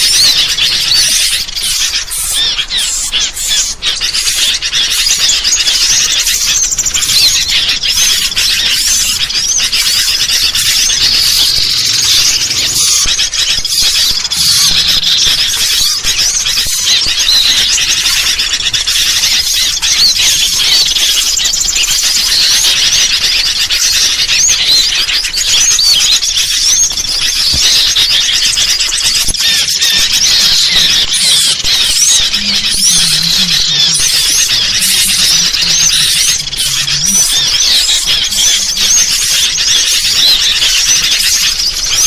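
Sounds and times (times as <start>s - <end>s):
bulbul calls: 0.0s - 42.0s
chorus of small birds chirping: 0.0s - 42.0s.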